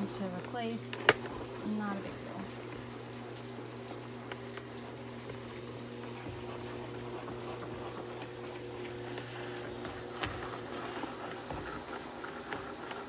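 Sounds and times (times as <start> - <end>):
spin mop motor humming: 0.0 - 13.0
pads scrubbing wet boards: 1.6 - 13.0.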